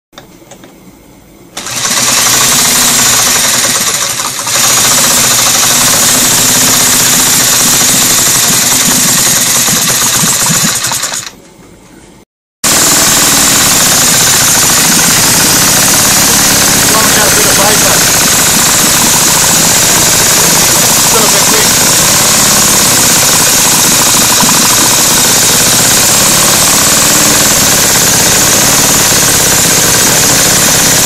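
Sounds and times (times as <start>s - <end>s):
drill spinning model engine: 1.6s - 11.4s, 12.7s - 31.0s.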